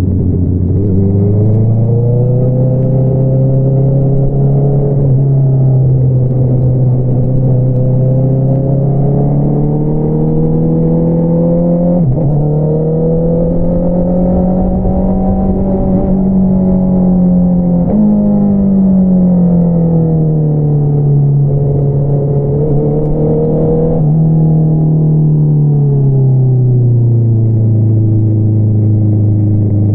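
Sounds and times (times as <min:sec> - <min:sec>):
motorcycle engine revving with gear shifts: 0:00.0 - 0:29.9.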